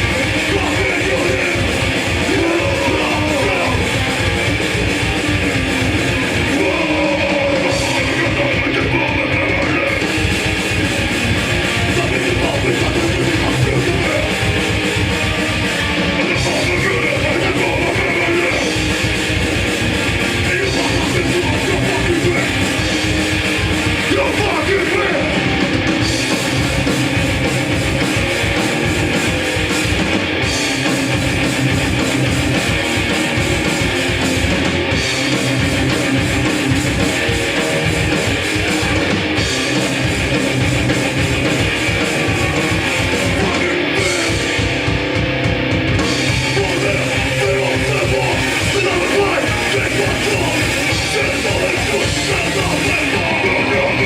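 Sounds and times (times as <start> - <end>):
punk band playing live: 0.0 - 54.0.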